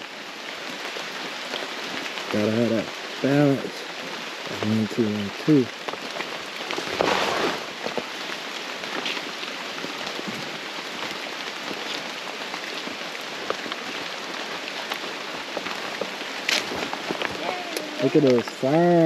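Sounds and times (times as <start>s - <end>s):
rain falling on foliage: 0.0s - 19.0s.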